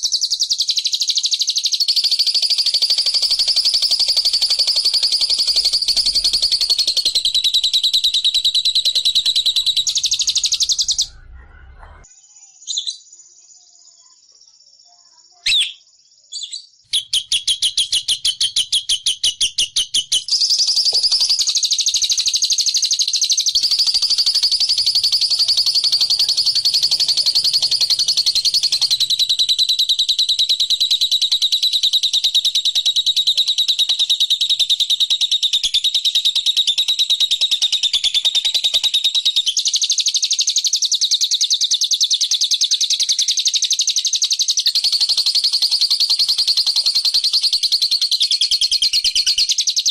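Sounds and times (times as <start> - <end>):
lovebird trilling chirps: 0.0 - 11.4, 15.4 - 39.6, 43.0 - 49.9.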